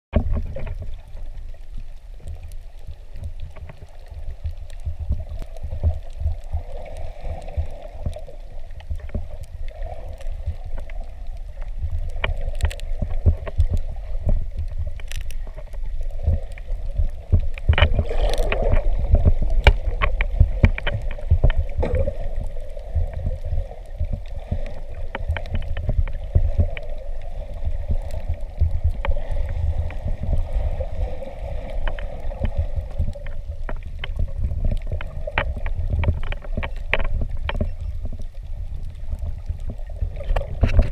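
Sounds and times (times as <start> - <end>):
sharp clicks and crackles: 0.1 - 40.9
underwater rumble of moving water: 0.1 - 40.9.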